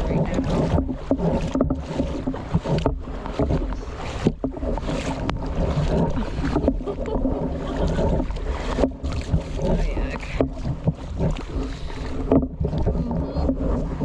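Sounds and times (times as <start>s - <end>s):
boots sloshing through water: 0.0s - 14.0s.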